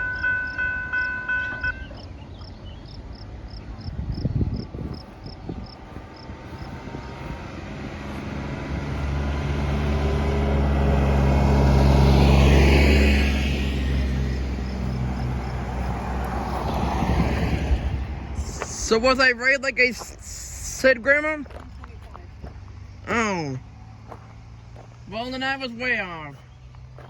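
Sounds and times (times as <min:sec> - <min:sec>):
engine drone passing by: 0:00.0 - 0:27.0.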